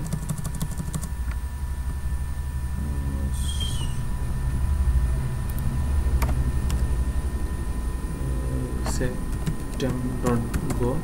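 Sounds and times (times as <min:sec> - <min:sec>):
faint electrical whine: 0:00.0 - 0:11.0.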